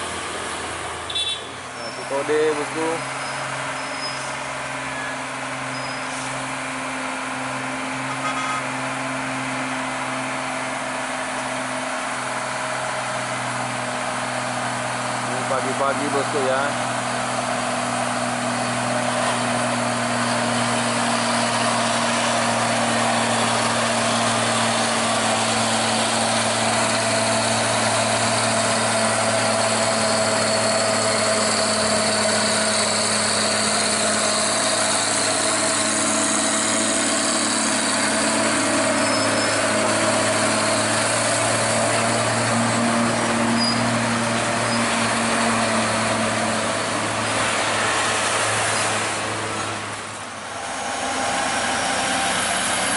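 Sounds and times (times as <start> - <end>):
diesel truck engine drone: 0.0 - 52.9.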